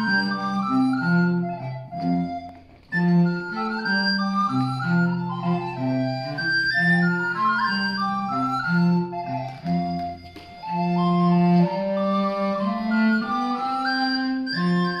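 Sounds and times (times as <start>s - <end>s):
woodwind melody: 0.0s - 15.0s.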